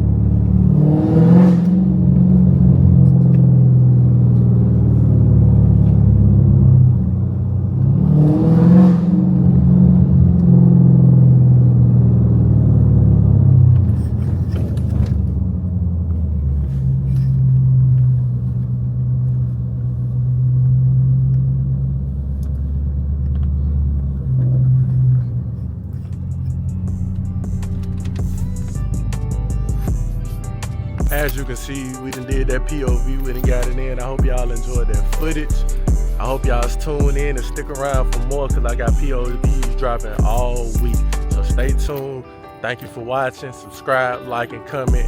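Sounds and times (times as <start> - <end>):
car exhaust droning: 0.0 - 42.0
engine revving: 0.0 - 42.0.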